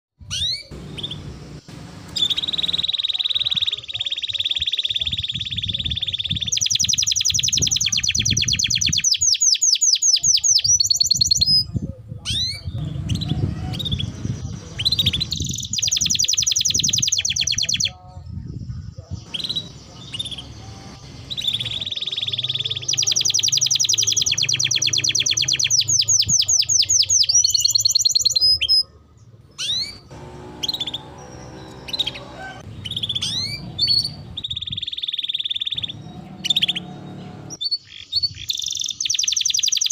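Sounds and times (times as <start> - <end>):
canary singing trills: 0.2 - 39.9.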